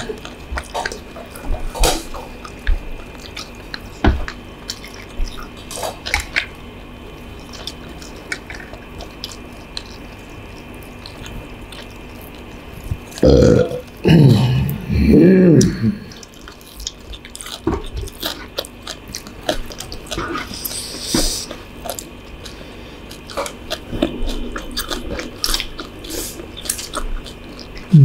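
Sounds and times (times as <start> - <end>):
chewing noodles mouth sounds: 0.0 - 28.0.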